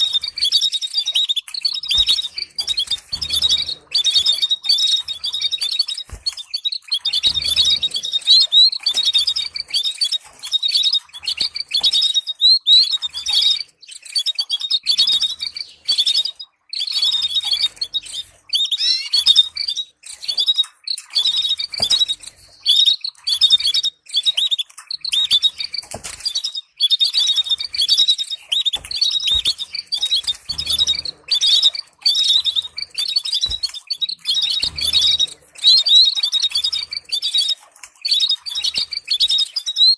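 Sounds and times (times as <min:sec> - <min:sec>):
canary singing trills and chirps: 0:00.0 - 0:39.9.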